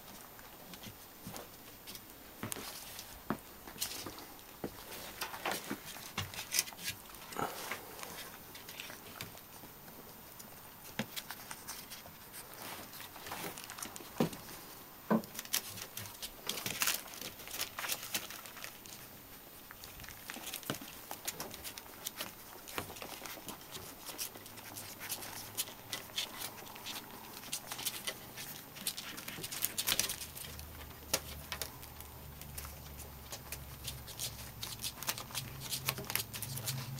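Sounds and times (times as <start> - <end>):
bedding and newspaper rustling: 0.0 - 36.9
puppies nursing clicks and smacks: 0.0 - 36.9.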